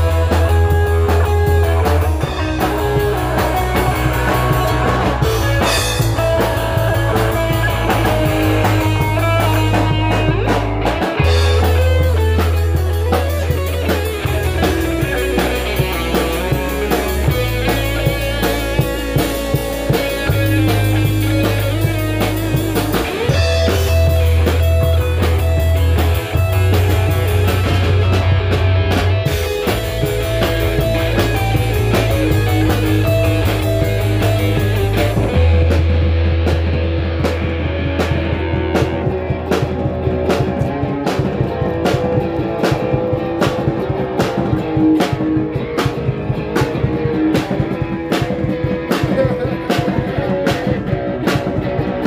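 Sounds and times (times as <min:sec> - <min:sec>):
low bass notes: 0:00.0 - 0:52.0
rock band playing: 0:00.0 - 0:52.0.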